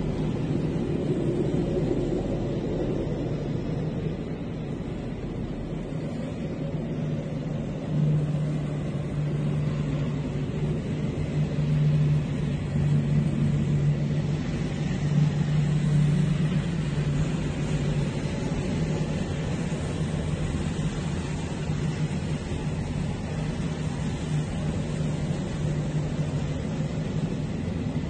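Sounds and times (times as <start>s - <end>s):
tank engines droning: 0.0s - 28.0s.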